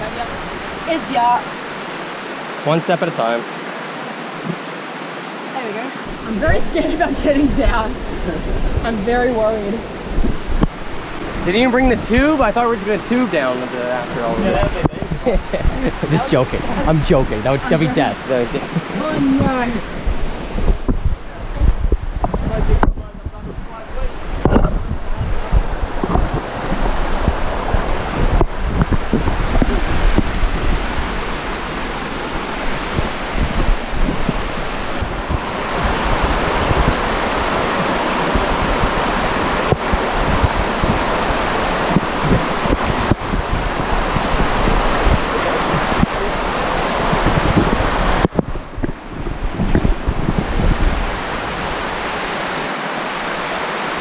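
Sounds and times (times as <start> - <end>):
waterfall rushing: 0.0 - 54.0
wind buffeting microphone: 6.0 - 54.0.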